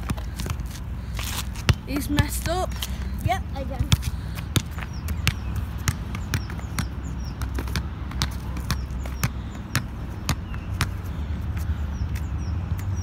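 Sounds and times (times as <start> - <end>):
rubber ball bouncing on tarmac: 0.0 - 12.9.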